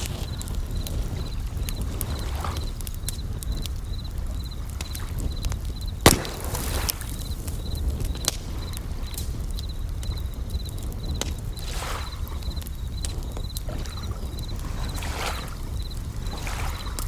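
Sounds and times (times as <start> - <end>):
campfire crackling and popping: 0.0 - 17.0
crickets chirping: 0.0 - 17.0.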